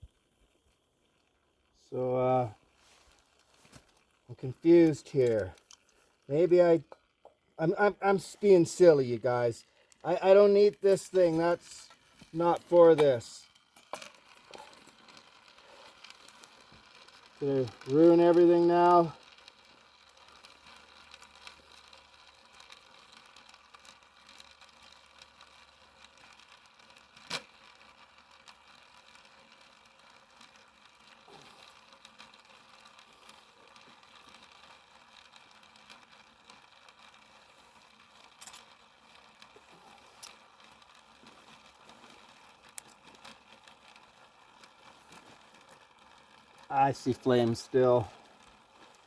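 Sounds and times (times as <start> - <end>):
small fire crackling: 0.0 - 49.0.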